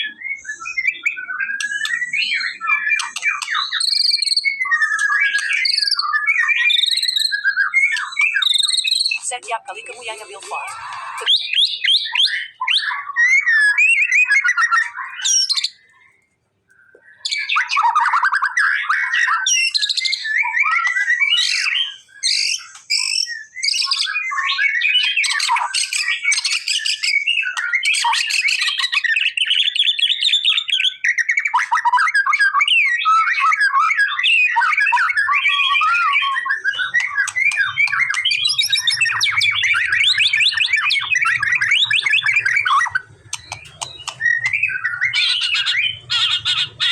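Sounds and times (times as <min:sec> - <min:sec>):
bird singing varied whistles: 0:00.0 - 0:09.4, 0:16.8 - 0:46.9.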